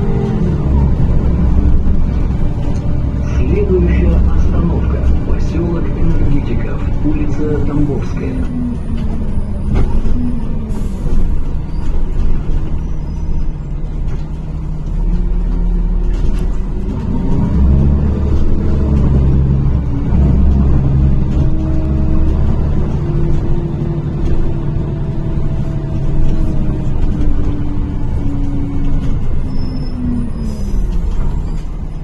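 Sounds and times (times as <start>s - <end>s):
bus engine accelerating: 0.0s - 32.0s.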